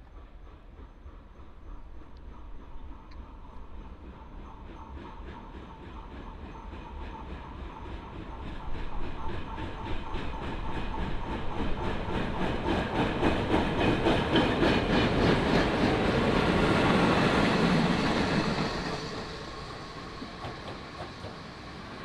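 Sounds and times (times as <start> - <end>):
diesel locomotives passing: 0.0 - 22.0
train wheels clicking on rail joints: 0.0 - 22.0.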